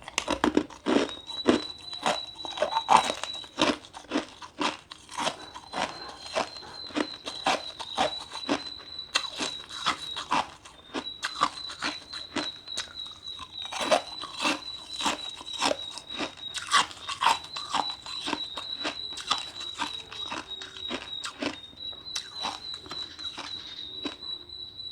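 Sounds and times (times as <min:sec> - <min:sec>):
ice being chewed: 0:00.0 - 0:24.9.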